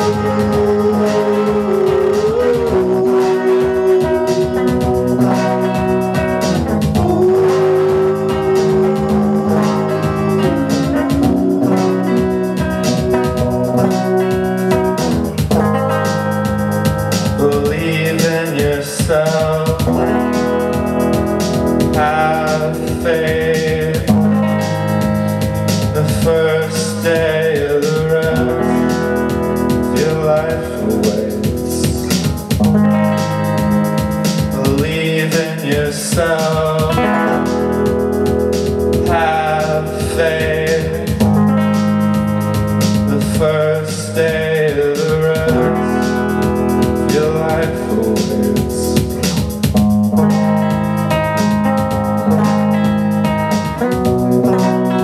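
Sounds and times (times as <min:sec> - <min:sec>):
electric guitar: 0:00.0 - 0:55.0
keyboard: 0:00.0 - 0:55.0
person singing: 0:00.0 - 0:55.0.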